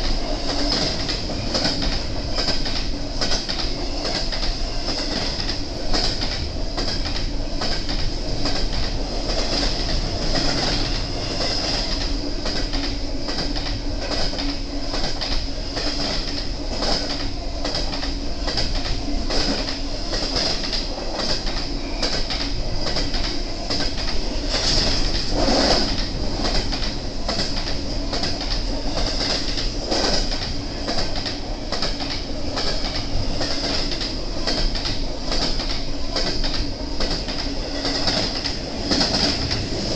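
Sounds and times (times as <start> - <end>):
wheels clicking over rail joints: 0.0 - 39.7
freight train cars rumbling: 0.0 - 39.9.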